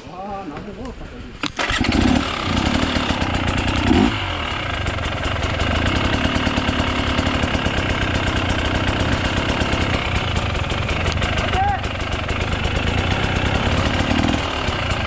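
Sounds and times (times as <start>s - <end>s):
dirt bike engine idling: 0.6s - 15.0s.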